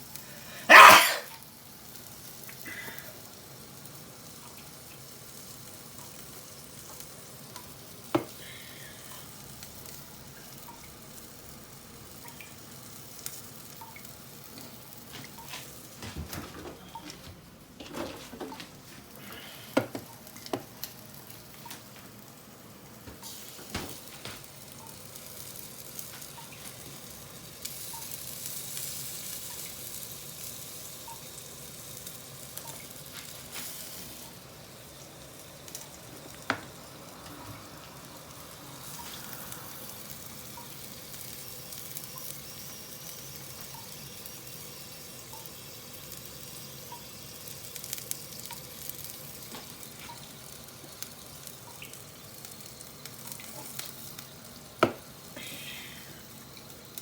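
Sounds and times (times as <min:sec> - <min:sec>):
skewers sizzling on grill: 0:00.0 - 0:57.0.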